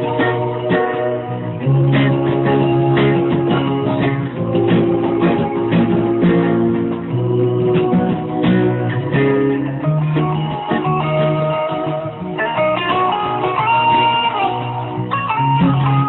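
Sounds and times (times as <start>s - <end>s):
guitar chords plucked and strummed: 0.0s - 16.0s.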